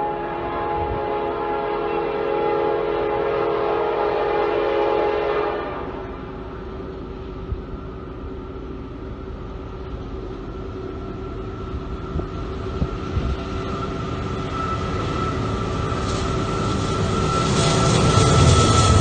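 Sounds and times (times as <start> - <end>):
diesel locomotive engine drone: 0.0 - 19.0
steady whine: 3.6 - 19.0.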